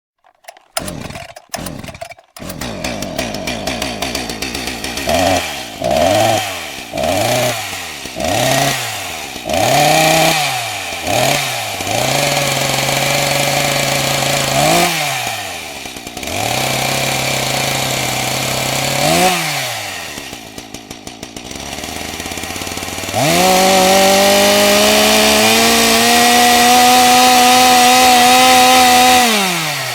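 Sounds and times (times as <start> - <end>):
chainsaw engine revving: 0.2 - 29.9.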